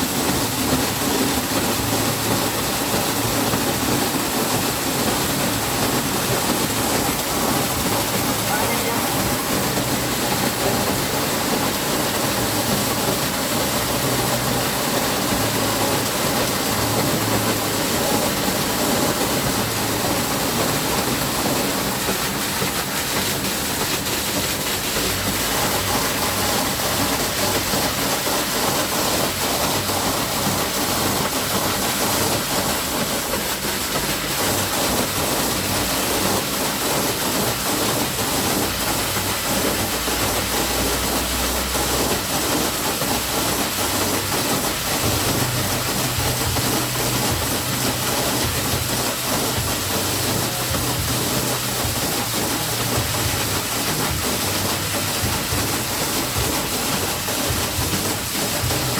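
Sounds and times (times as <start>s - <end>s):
water gushing from fire hydrant: 0.0s - 58.9s.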